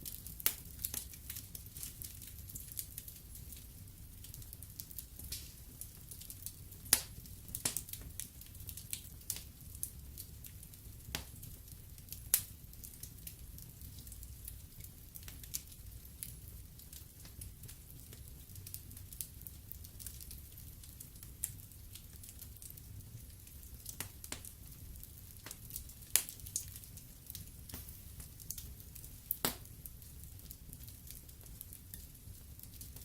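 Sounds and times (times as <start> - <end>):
fire crackles and pops: 0.0 - 33.0.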